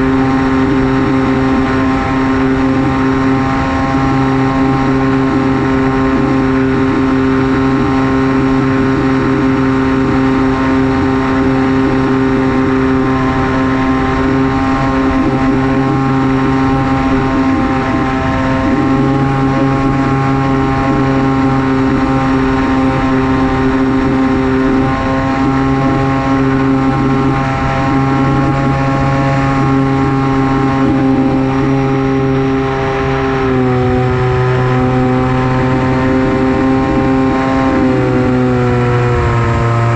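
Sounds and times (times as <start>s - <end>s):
electric motor and propeller droning: 0.0s - 39.9s
rush of noise: 0.0s - 39.9s.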